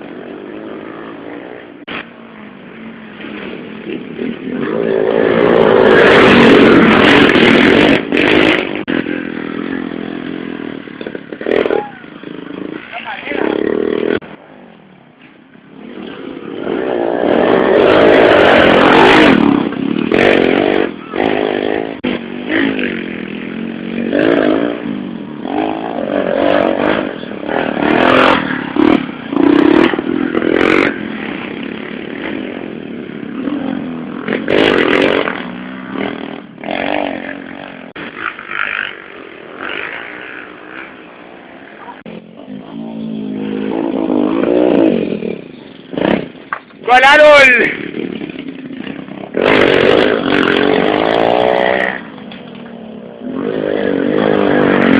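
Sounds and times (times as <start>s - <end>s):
motorcycles revving past: 0.0s - 46.9s, 47.6s - 54.9s.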